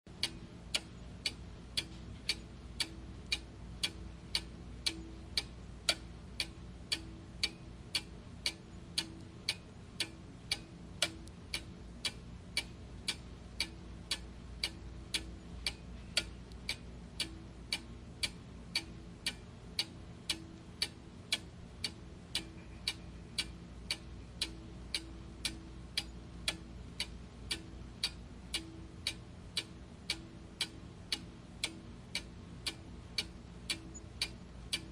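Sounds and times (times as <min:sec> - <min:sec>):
clock ticking: 0:00.1 - 0:34.9
faint low hum: 0:00.1 - 0:34.9.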